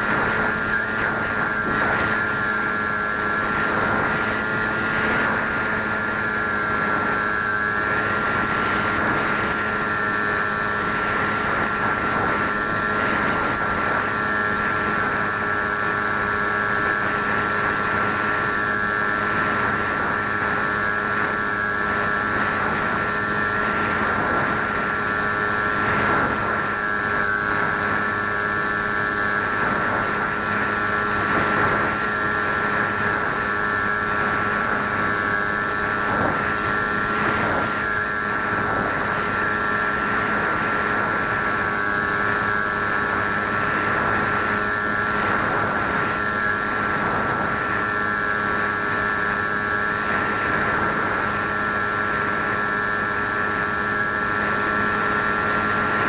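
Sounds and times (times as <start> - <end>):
model plane motor whine: 0.0 - 56.0
wind rushing over microphone: 0.0 - 56.0.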